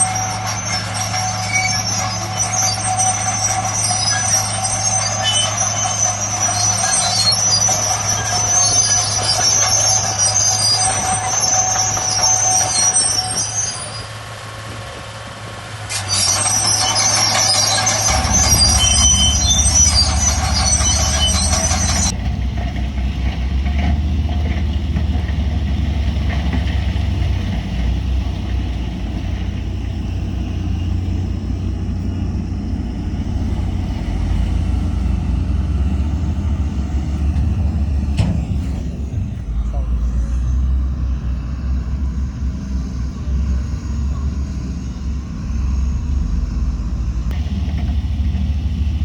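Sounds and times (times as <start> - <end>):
diesel engine droning: 0.0 - 49.0
steel tracks squealing: 0.0 - 49.0.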